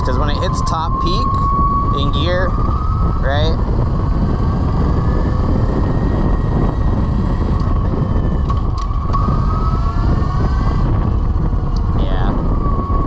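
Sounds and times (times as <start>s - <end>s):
electric motor whine: 0.0s - 13.0s
wind noise rushing: 0.0s - 13.0s.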